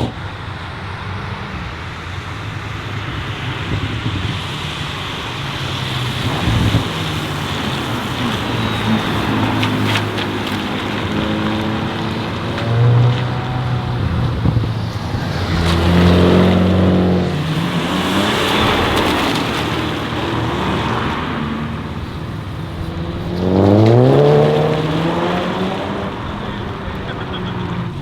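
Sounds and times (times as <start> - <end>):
car engine accelerating hard: 0.0 - 28.0
car engine holding steady note: 0.0 - 28.0
car rushing past: 0.0 - 28.0.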